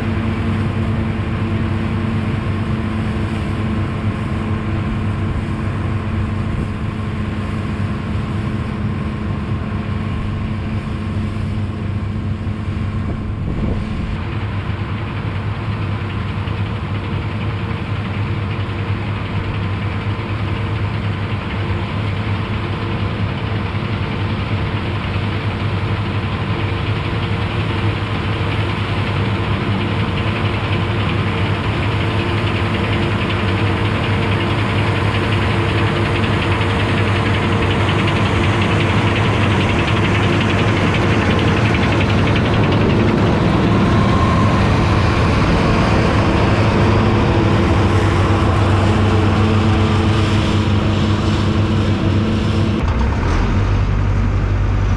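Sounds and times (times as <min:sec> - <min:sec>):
combine harvester running: 0:00.0 - 0:54.9
continuous mechanical hum: 0:00.0 - 0:54.9.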